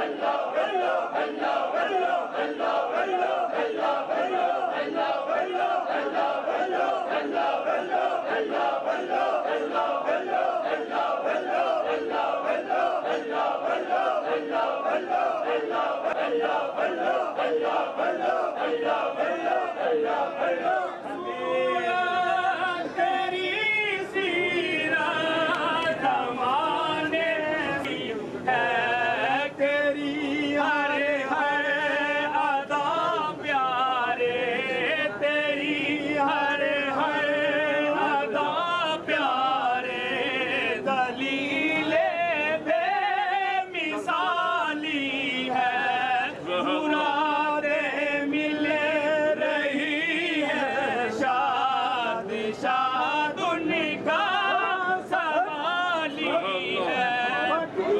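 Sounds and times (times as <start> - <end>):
men chanting in chorus: 0.0 - 57.9.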